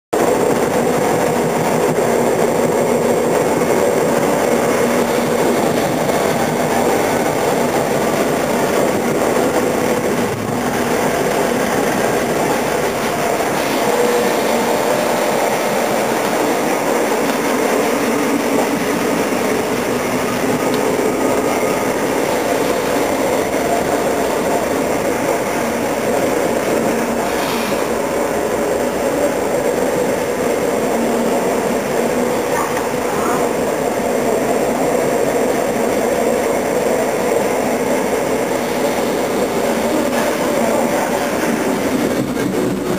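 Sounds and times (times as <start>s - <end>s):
train wheels on rails: 0.1s - 42.9s.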